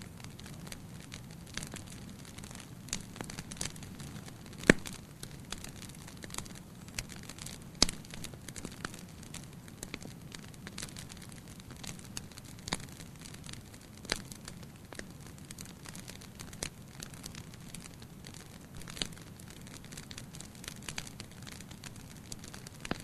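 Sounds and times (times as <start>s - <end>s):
wood fire crackling: 0.0s - 23.0s
sharp pops of fire: 0.3s - 23.0s.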